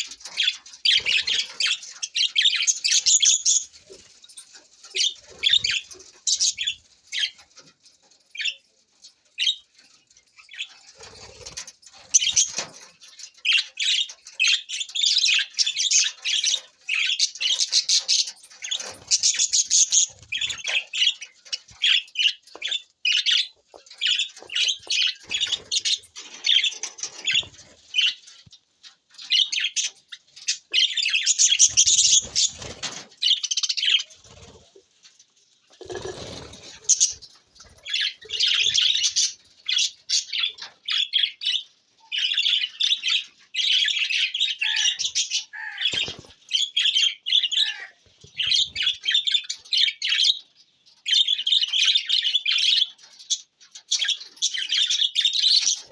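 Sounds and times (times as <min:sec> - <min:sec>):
budgerigars chirping and warbling: 0:00.0 - 0:07.7, 0:08.3 - 0:08.6, 0:09.3 - 0:34.8, 0:35.8 - 0:55.9.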